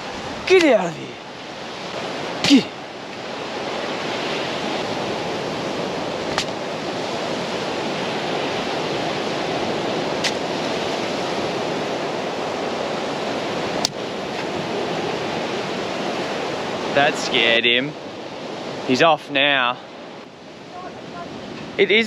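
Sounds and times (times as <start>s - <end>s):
ocean surf washing onto beach: 0.0s - 22.0s.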